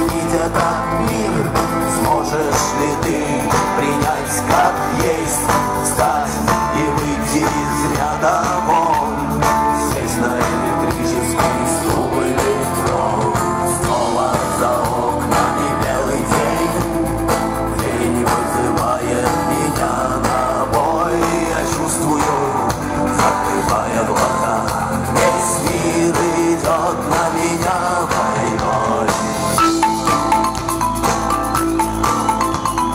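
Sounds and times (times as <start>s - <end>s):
live rock band playing: 0.0s - 32.9s.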